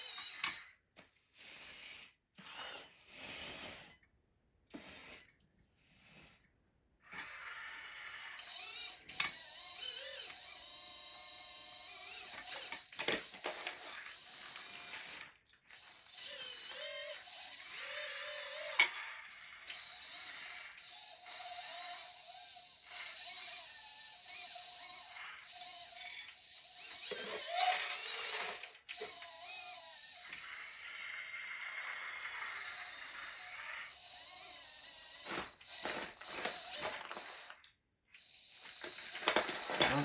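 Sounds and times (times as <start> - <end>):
hydraulic pump whining: 7.1 - 40.0.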